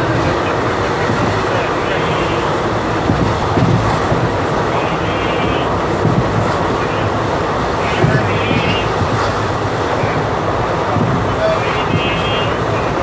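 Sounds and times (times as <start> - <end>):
train wheels rumbling and rattling: 0.0 - 13.0.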